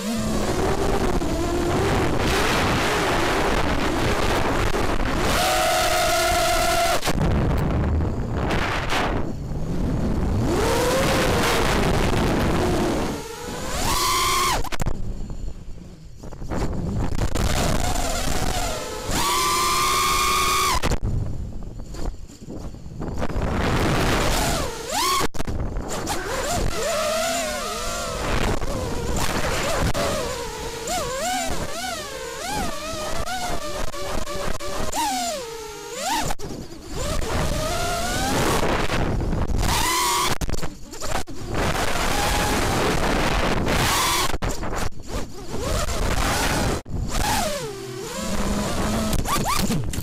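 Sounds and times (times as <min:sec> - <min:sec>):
drone motors whining: 0:00.0 - 0:50.0
wind rushing over microphone: 0:00.0 - 0:50.0.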